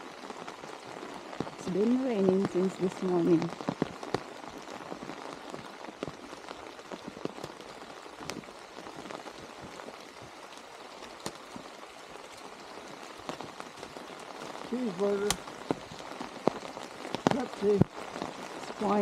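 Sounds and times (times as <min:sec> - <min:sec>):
raindrops ticking on a surface: 0:00.0 - 0:19.0
steady rain falling: 0:00.0 - 0:19.0.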